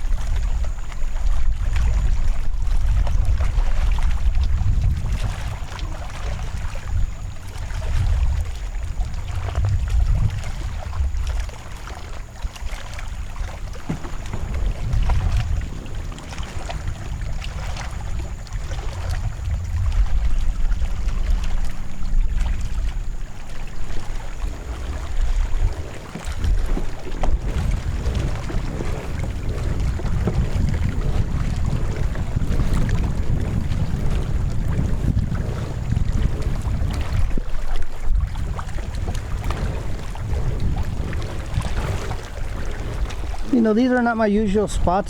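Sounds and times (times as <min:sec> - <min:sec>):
water sounds around kayak: 0:00.0 - 0:45.0
wind buffeting microphone: 0:00.0 - 0:45.0.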